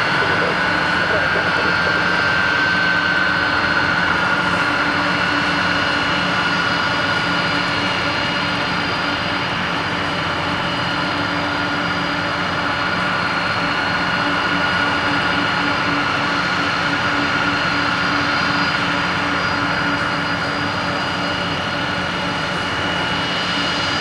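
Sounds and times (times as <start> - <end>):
jet engines whining at taxi: 0.0 - 24.0.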